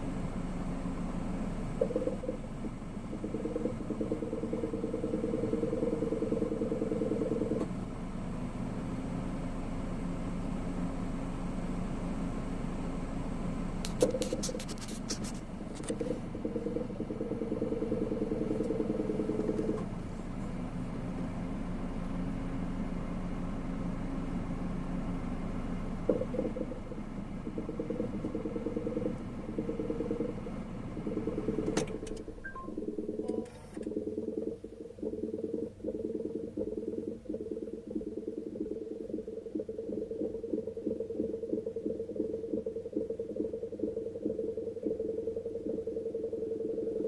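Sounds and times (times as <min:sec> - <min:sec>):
air conditioner hum: 0:00.0 - 0:47.0.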